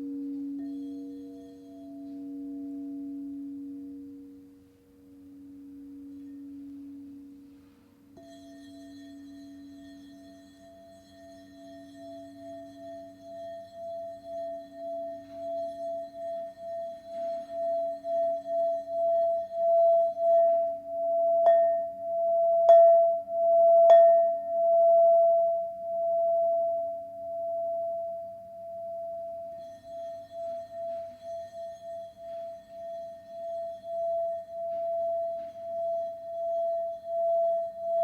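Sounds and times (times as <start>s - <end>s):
singing bowl steady tone: 0.0s - 38.0s.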